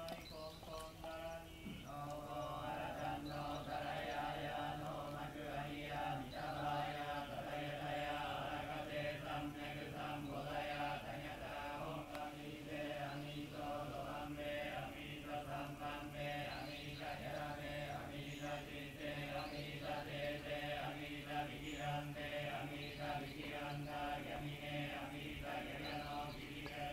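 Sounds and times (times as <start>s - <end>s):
monks chanting: 0.0s - 26.9s.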